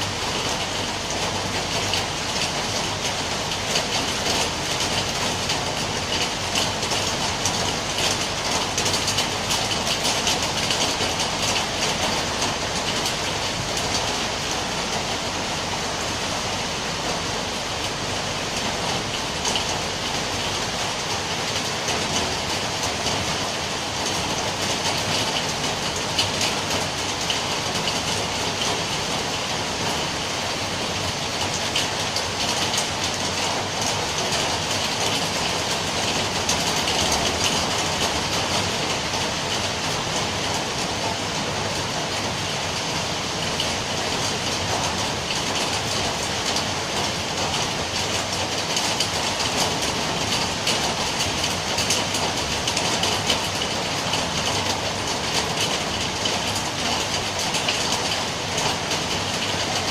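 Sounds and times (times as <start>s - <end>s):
heavy rain: 0.0s - 59.9s
raindrops ticking on a surface: 0.0s - 59.9s.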